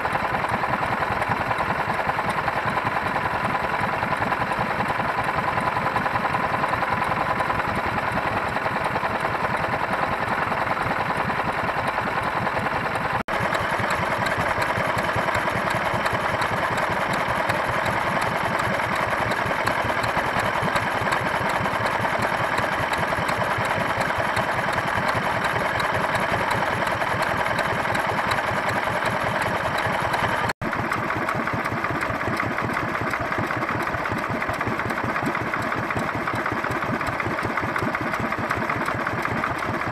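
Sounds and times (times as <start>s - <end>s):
stationary engines running: 0.0s - 39.9s.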